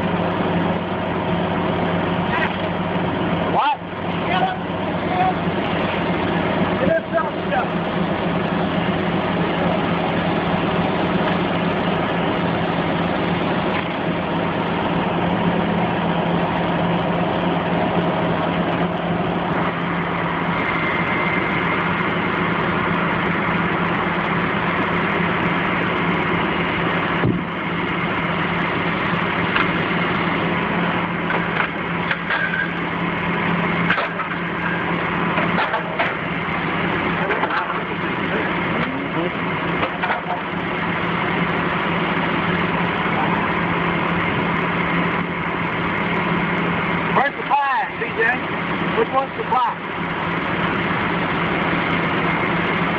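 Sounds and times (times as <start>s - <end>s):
crane engine running: 0.0s - 52.9s.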